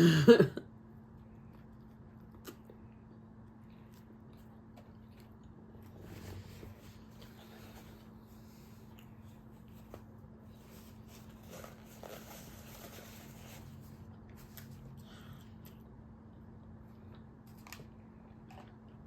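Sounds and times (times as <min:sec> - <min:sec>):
faint steady hum: 0:00.0 - 0:19.0
soft chewing: 0:00.9 - 0:19.0.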